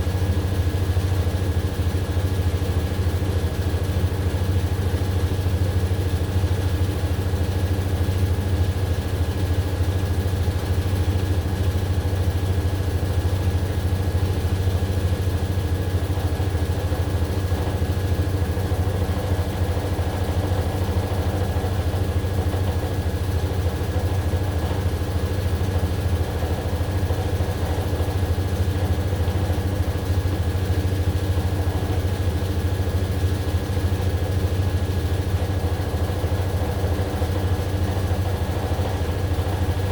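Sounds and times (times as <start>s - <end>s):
washing machine motor and drum hum: 0.0s - 39.9s.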